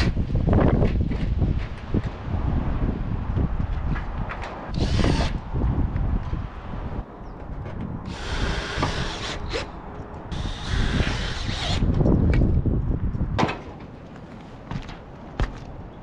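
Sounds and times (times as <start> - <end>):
wind rumbling on microphone: 0.0 - 14.1.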